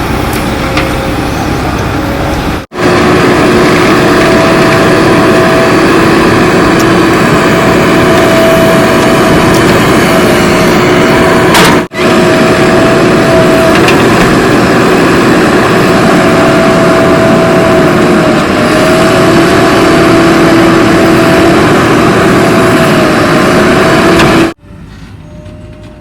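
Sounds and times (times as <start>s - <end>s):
engine whine: 0.0s - 26.0s
heavy diesel engine running hard: 0.0s - 26.0s.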